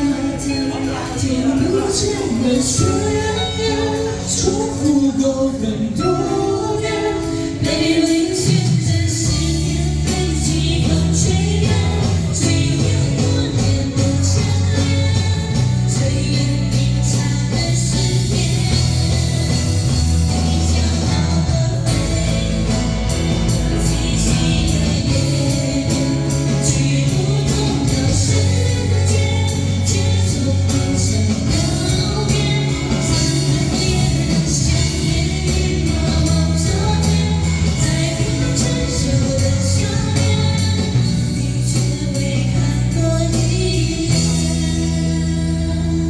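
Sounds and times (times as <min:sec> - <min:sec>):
live pop-rock band playing: 0:00.0 - 0:46.0
person singing: 0:00.0 - 0:46.0.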